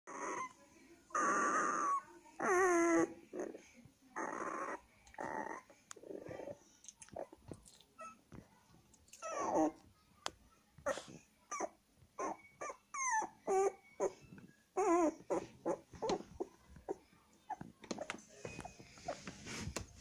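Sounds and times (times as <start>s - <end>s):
puppy whimpering: 0.1s - 3.6s, 4.2s - 7.4s, 8.0s - 8.2s, 9.1s - 9.8s, 10.8s - 19.3s.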